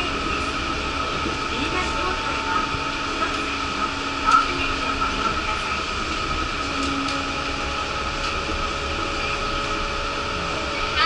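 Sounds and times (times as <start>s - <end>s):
train tyre and running noise: 0.0s - 11.0s.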